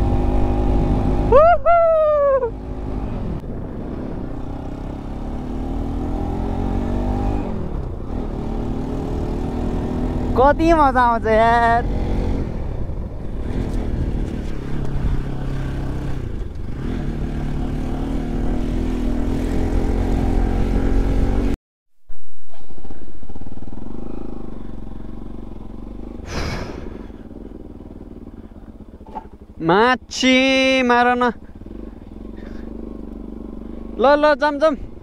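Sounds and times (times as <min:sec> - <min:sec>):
motorcycle engine revving: 0:00.0 - 0:21.6, 0:22.5 - 0:35.0
wind and road noise: 0:00.0 - 0:35.0.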